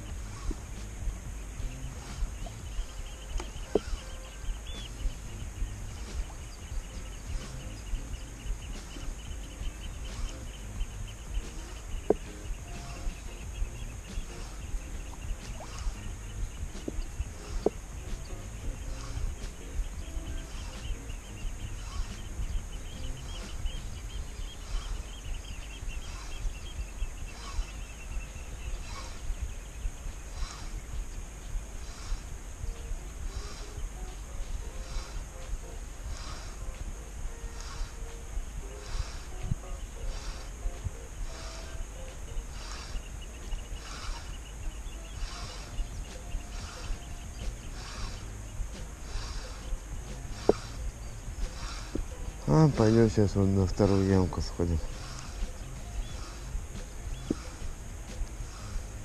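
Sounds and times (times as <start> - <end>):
rapid chirring: 0.0 - 59.0
steady high buzz: 0.0 - 59.0
wind rumble on microphone: 0.0 - 59.0.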